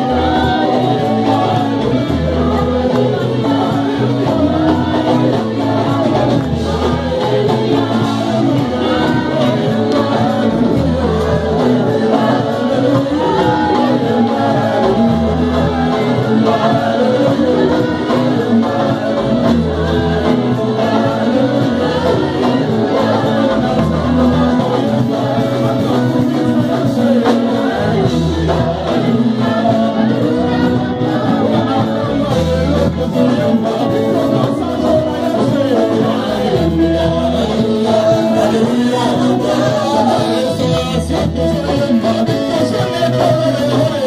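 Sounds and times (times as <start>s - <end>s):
deep bass notes: 0.0s - 43.9s
band with keyboard and drums: 0.0s - 44.0s
voices singing together: 0.0s - 44.0s.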